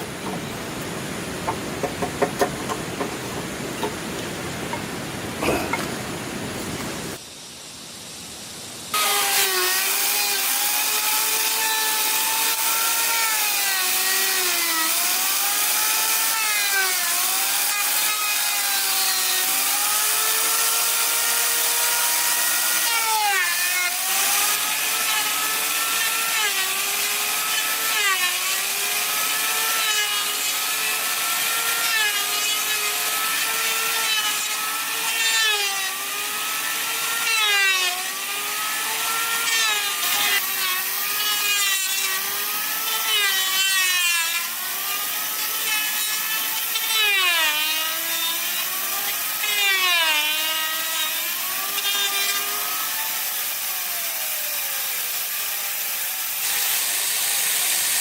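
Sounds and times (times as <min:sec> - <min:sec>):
power saw cutting wood: 0:00.0 - 0:07.2, 0:08.9 - 0:58.0.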